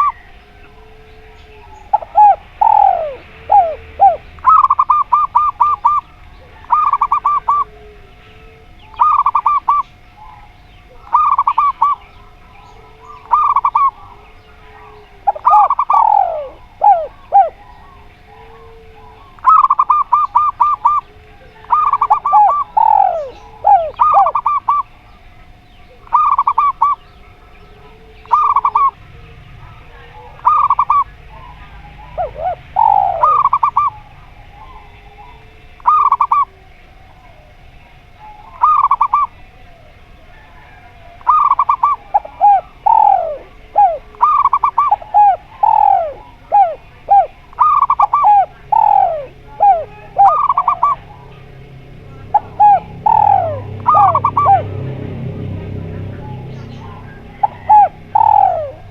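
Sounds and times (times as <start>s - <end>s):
doves trilled cooing: 0.0s - 58.9s
faint low coos: 0.0s - 58.9s
faint steady hum: 0.0s - 58.9s.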